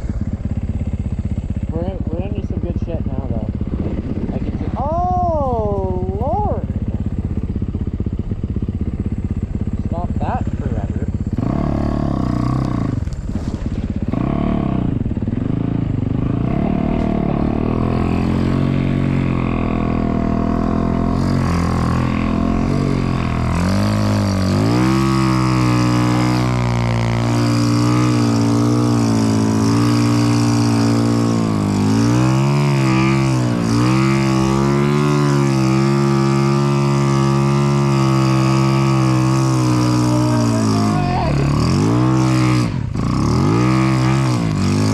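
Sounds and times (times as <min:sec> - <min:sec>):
snow bike engine revving: 0:00.0 - 0:44.9.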